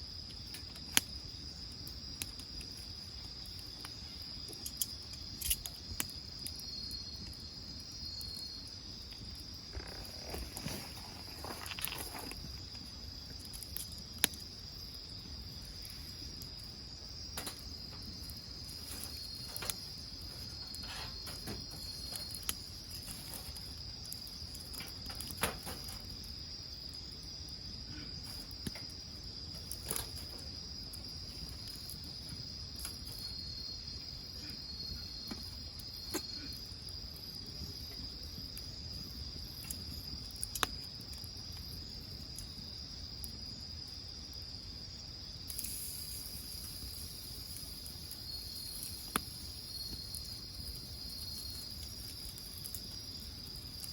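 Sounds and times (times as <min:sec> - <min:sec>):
crickets trilling: 0:00.0 - 0:53.9
wood fire popping and crackling: 0:00.0 - 0:53.9.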